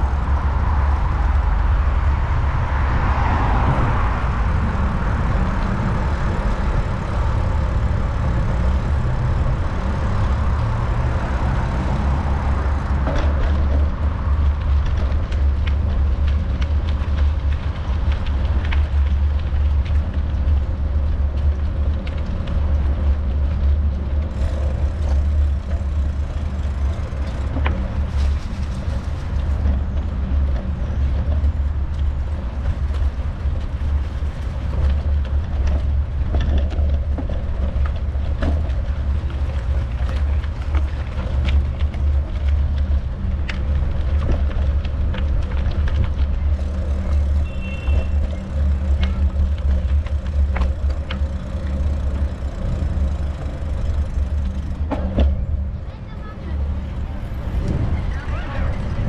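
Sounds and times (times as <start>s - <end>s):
road traffic: 0.0s - 59.0s
wind buffeting microphone: 0.0s - 59.0s.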